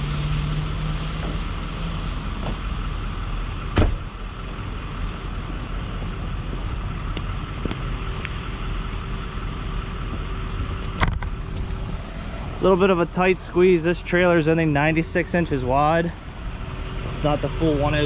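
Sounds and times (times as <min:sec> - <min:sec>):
diesel pickup engine running: 0:00.0 - 0:18.0.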